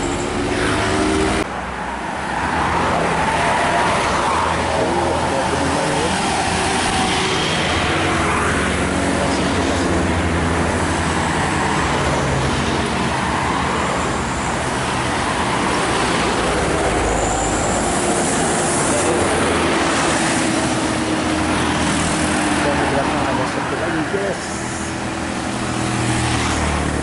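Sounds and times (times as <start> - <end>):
bus diesel engine pulling uphill: 0.0 - 1.6, 4.4 - 27.0
road traffic: 0.0 - 27.0.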